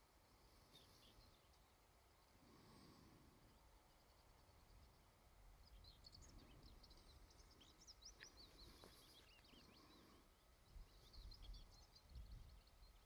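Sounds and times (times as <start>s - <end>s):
birds chirping: 0.6s - 13.0s.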